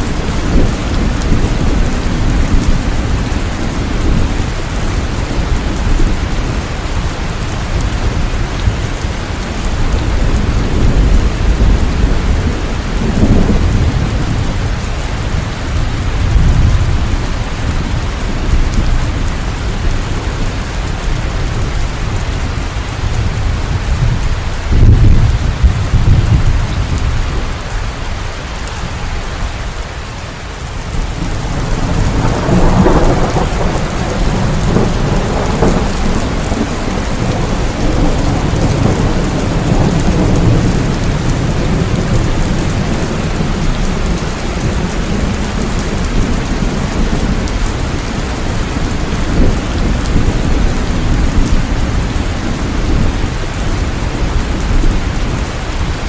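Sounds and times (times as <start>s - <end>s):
low rumbles of thunder: 0.0s - 29.7s, 30.8s - 56.0s
steady rain pouring: 0.0s - 56.0s.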